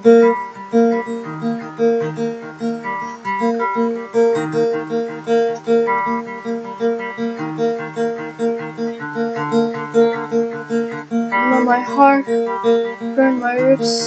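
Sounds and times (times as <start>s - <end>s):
guitar picking single notes: 0.0s - 14.0s.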